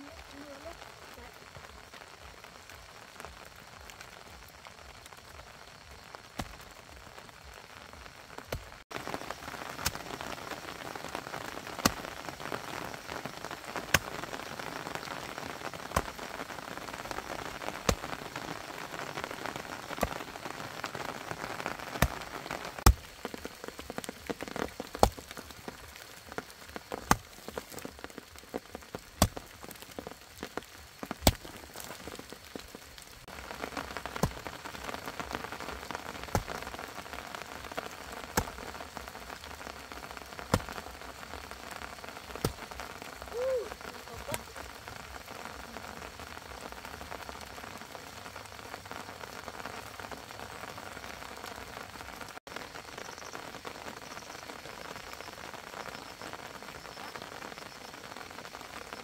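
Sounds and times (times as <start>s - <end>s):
close raindrops striking: 0.0s - 59.0s
rain pattering: 0.0s - 59.0s.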